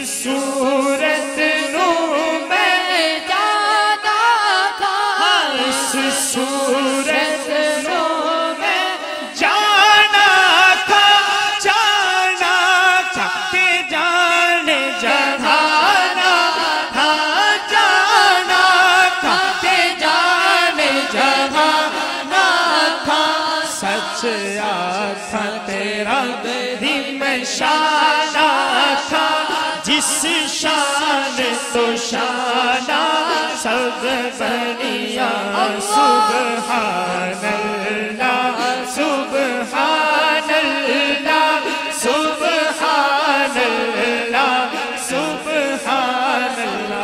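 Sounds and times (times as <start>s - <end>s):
man singing into a microphone: 0.0s - 47.0s.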